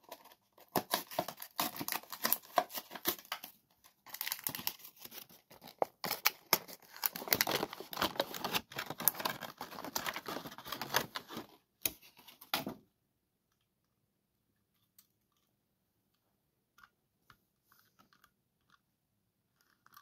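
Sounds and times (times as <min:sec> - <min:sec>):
crinkling and rustling: 0:00.0 - 0:12.8, 0:14.6 - 0:20.0.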